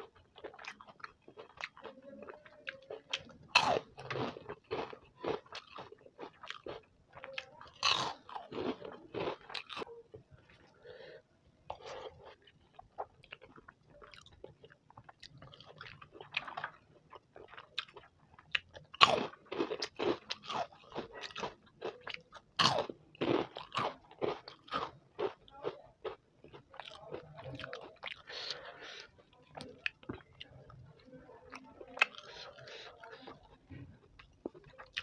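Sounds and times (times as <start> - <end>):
soft chewing: 0.0 - 35.0
crisp food crunching: 0.1 - 9.9, 11.7 - 30.7.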